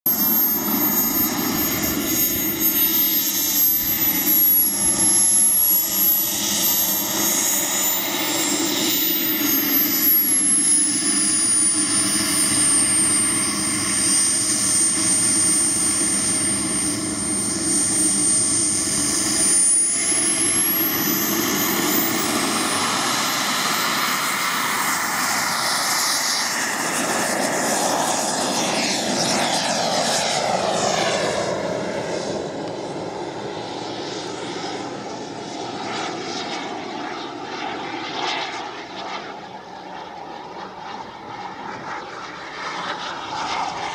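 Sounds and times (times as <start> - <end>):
model jet engine whine: 0.0 - 43.9.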